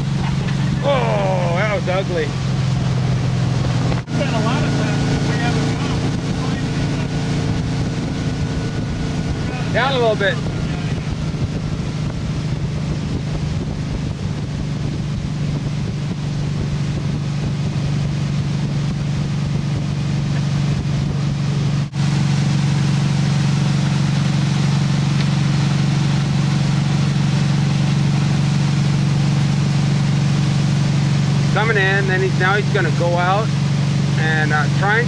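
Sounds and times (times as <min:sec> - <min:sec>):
wind on microphone: 0:00.0 - 0:32.6
motorboat engine running: 0:00.0 - 0:35.0.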